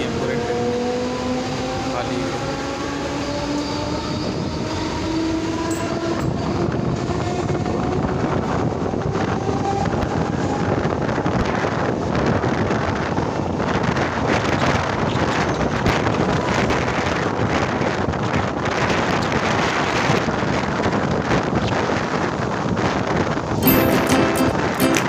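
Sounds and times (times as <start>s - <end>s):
train rumble and rushing noise: 0.0s - 23.6s.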